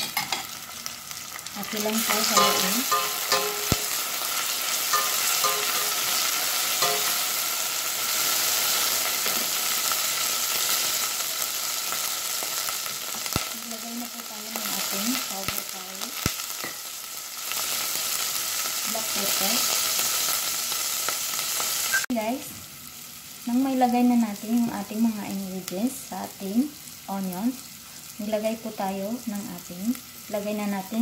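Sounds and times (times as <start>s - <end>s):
vegetables sizzling in hot oil: 0.0s - 31.0s.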